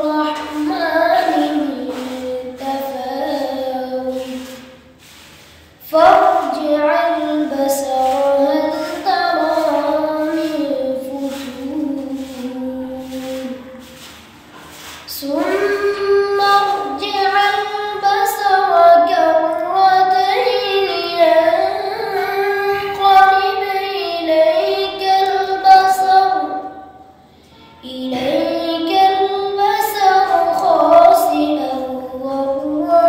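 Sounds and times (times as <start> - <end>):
boy chanting melodically: 0.0 - 14.1, 15.0 - 33.0.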